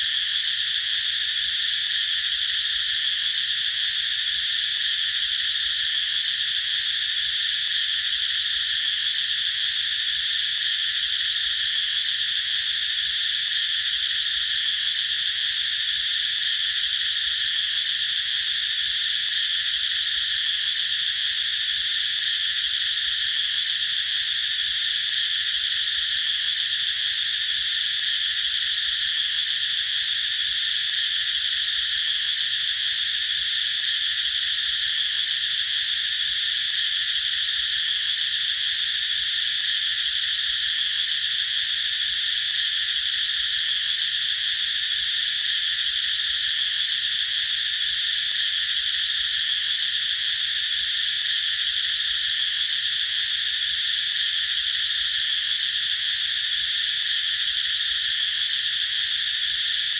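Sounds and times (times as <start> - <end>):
cicadas singing: 0.0 - 59.9.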